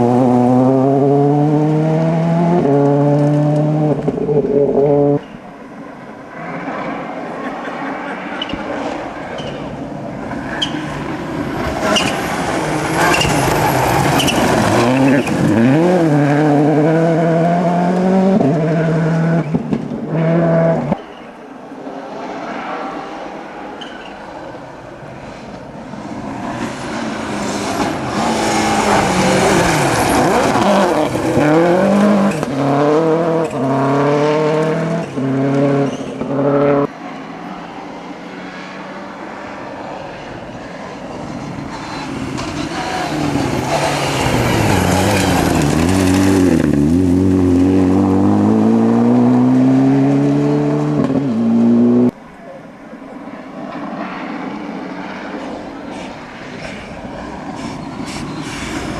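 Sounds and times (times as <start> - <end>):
rally car engines revving: 0.0 - 58.9.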